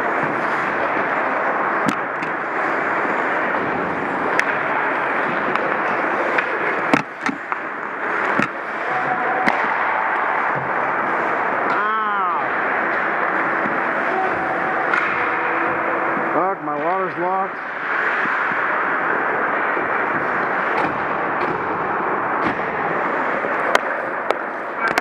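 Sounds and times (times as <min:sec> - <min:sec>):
hockey sticks and puck clacking: 0:00.0 - 0:25.0
skate blades scraping ice: 0:00.0 - 0:25.0.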